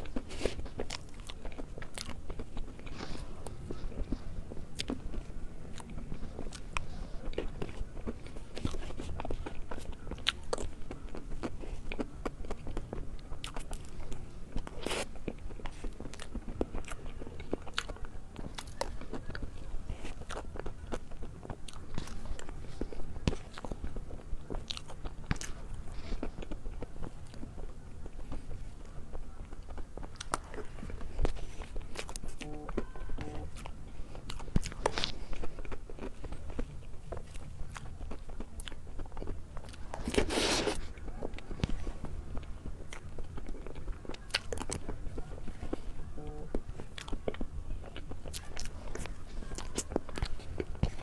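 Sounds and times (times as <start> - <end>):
person chewing cake: 0.0 - 51.0.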